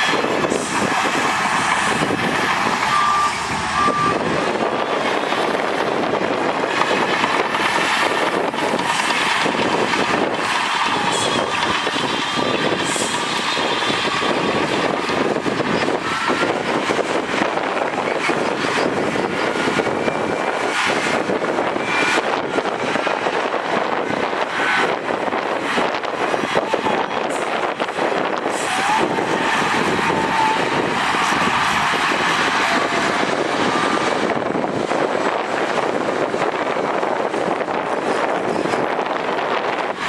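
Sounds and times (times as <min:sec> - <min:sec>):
heavy machinery engine din: 0:00.0 - 0:40.0.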